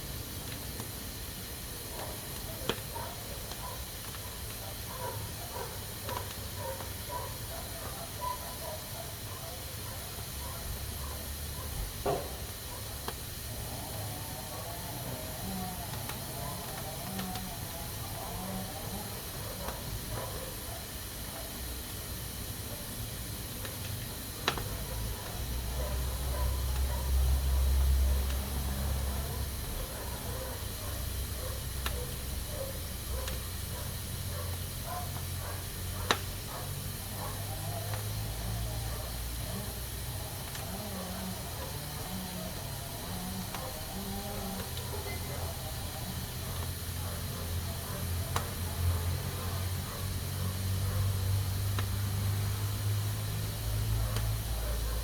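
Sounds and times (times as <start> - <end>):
pressure cooker hissing steam: 0.0 - 55.0.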